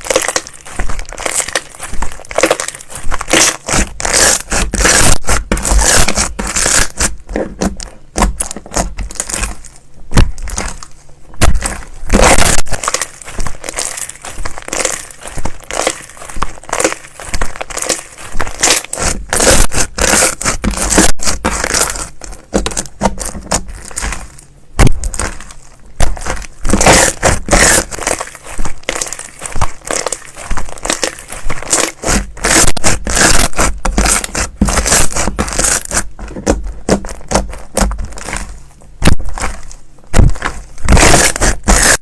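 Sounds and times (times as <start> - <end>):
slime squishing and crackling: 0.0 - 42.0.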